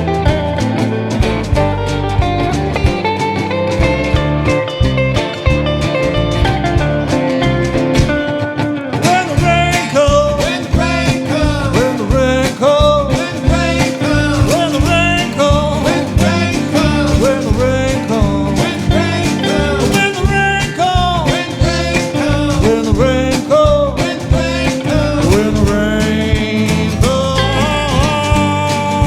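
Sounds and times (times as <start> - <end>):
band playing country music: 0.0 - 29.0.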